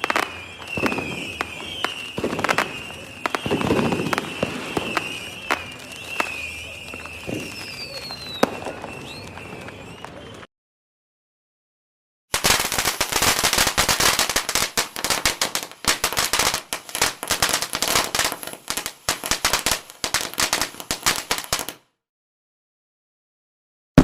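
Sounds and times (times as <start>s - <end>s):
fireworks cracking rapidly: 0.0s - 10.4s, 12.3s - 21.8s.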